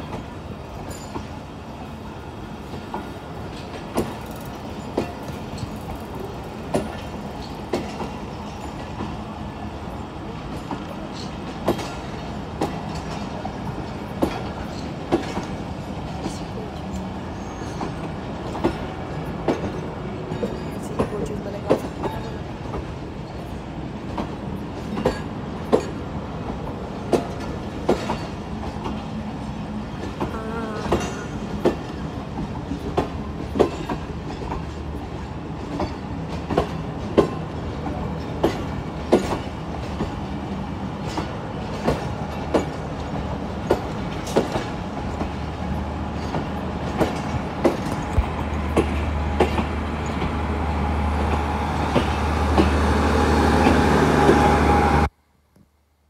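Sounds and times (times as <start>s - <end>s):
train rolling rumble: 0.0s - 55.1s
train wheels clacking over rail joints: 2.6s - 9.4s, 10.3s - 50.5s, 51.2s - 54.5s.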